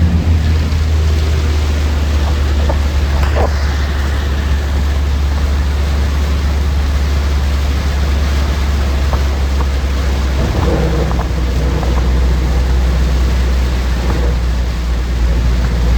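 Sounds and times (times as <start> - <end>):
car driving rumble: 0.0 - 15.9
road noise hiss: 0.0 - 15.9.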